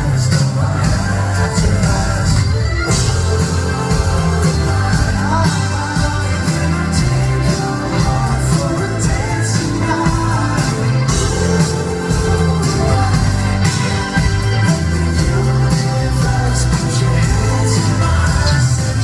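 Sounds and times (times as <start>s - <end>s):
drums beating: 0.0s - 19.0s
live pop rock band: 0.0s - 19.0s
person singing: 0.0s - 19.0s.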